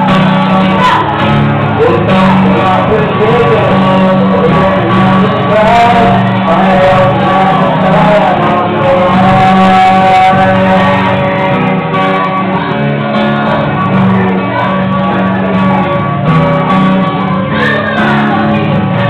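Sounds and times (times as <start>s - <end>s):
acoustic guitar: 0.0s - 19.0s
person singing into a microphone: 0.0s - 19.0s.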